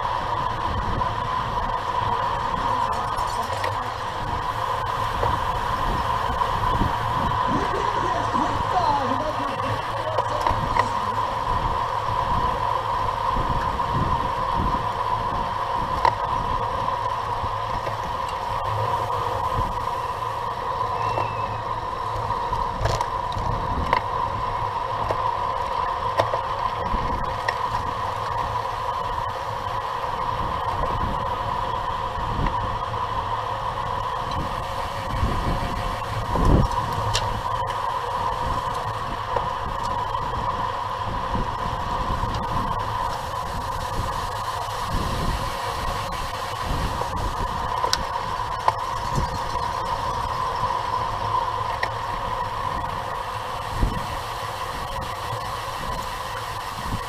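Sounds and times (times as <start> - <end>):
wind buffeting microphone: 0.0 - 26.0, 26.7 - 57.0
bicycle tyres and drivetrain whir: 0.0 - 57.0.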